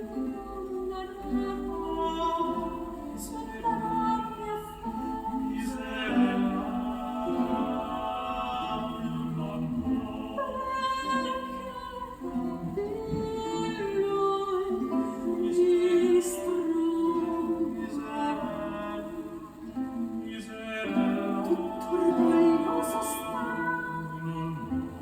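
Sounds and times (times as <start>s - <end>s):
song over plucked strings: 0.0s - 25.0s.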